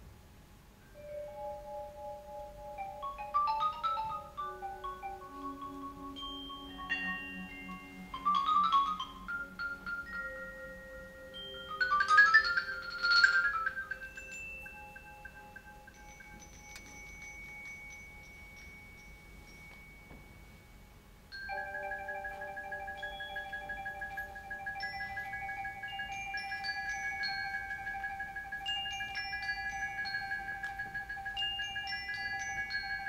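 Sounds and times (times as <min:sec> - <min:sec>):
mallet percussion playing: 0:01.0 - 0:33.0.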